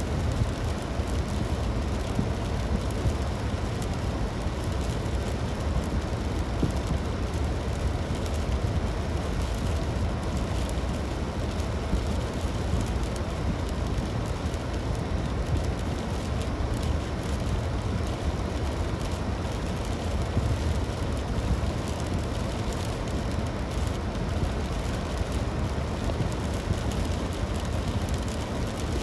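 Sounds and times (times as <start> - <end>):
car driving on highway: 0.1 - 29.0.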